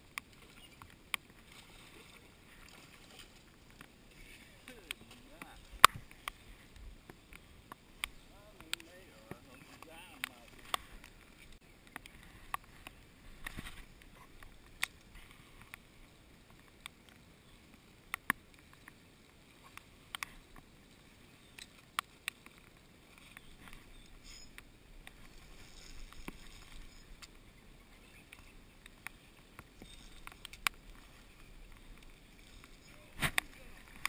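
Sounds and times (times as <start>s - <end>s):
faint steady hiss: 0.0s - 34.0s.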